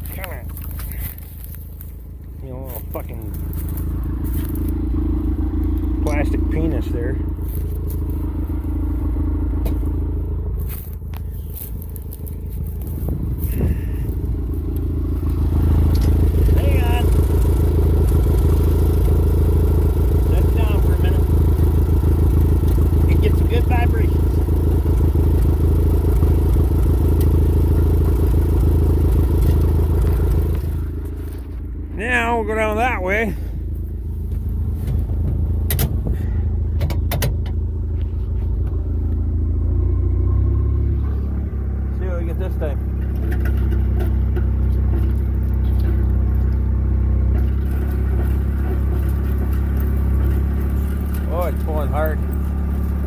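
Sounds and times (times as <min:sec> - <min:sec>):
engine running steadily: 0:00.0 - 0:53.0.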